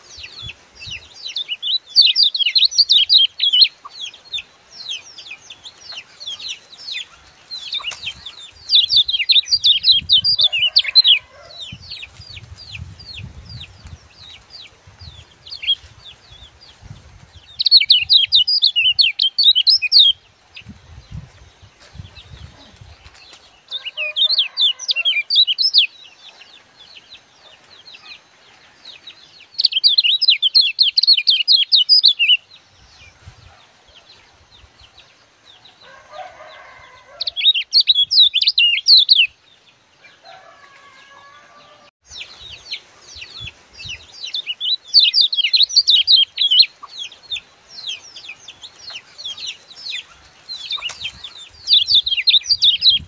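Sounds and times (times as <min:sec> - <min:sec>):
songbird high rapid chirping: 0:00.0 - 0:28.2, 0:28.9 - 0:35.1, 0:36.5 - 0:39.4, 0:42.1 - 0:53.0.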